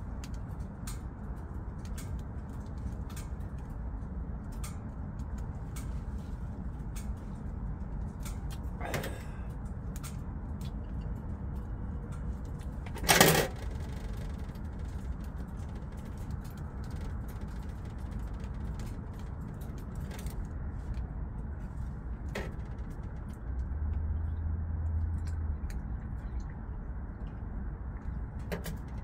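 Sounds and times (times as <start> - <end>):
wood fire crackling: 0.0 - 25.6
low hum: 0.0 - 29.0
steady low rumble: 0.0 - 29.0.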